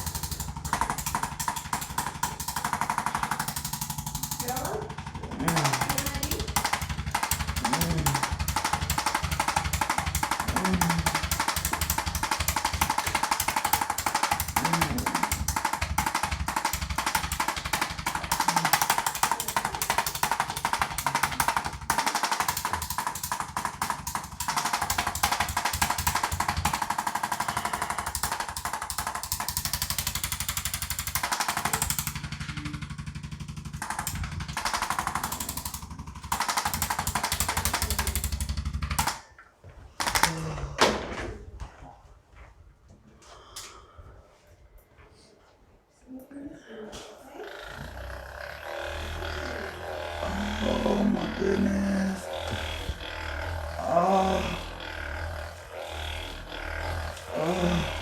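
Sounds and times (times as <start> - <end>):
percussion massager hammering: 0.0 - 39.4, 40.0 - 40.6, 47.3 - 58.0.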